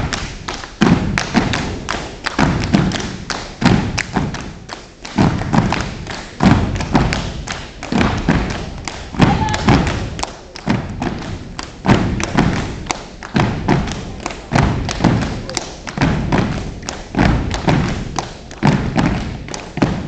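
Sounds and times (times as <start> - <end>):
stomping on mats: 0.1 - 20.0.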